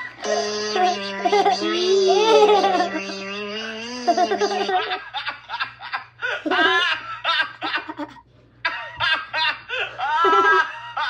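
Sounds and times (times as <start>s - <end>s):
children laughing: 0.0s - 11.0s.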